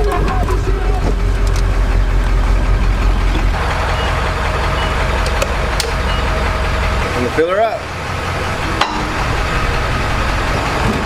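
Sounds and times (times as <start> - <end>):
engine idling: 0.0 - 11.0
truck engine rumble: 0.0 - 11.0.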